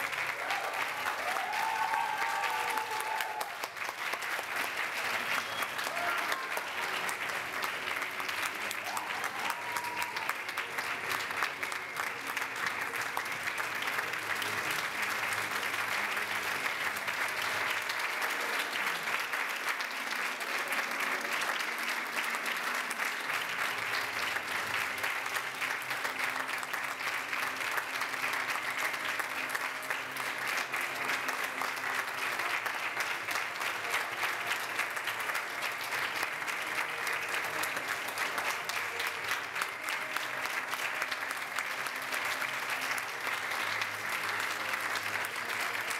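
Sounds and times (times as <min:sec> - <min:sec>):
audience applauding: 0:00.0 - 0:45.9.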